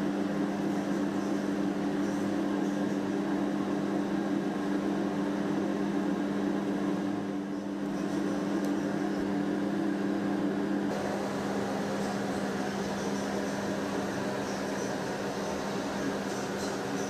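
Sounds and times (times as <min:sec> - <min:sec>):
low machine hum with two tones: 0:00.0 - 0:17.0.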